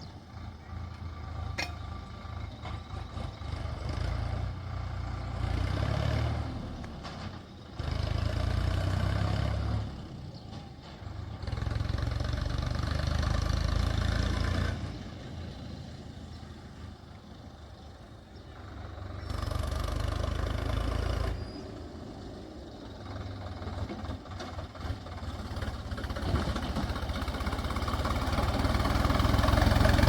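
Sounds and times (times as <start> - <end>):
heavy machinery diesel engine: 0.0 - 30.0.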